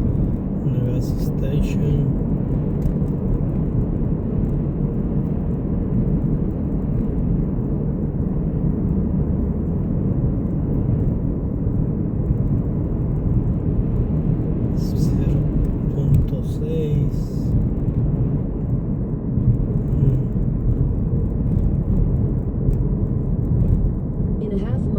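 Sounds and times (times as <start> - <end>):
car driving interior rumble: 0.0 - 24.9.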